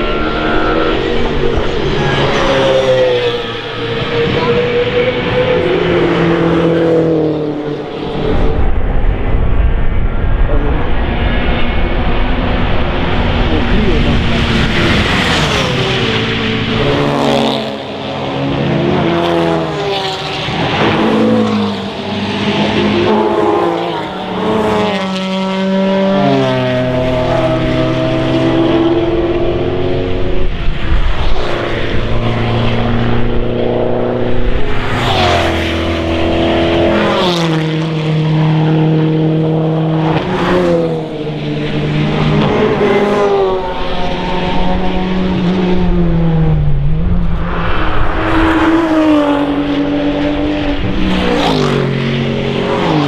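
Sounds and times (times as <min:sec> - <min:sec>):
racing cars passing at speed: 0:00.0 - 0:53.0.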